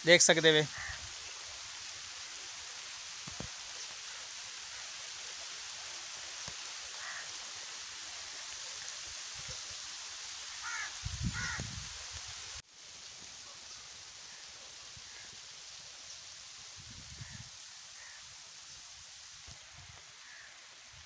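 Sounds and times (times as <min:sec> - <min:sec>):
light rain hissing: 0:00.0 - 0:21.0.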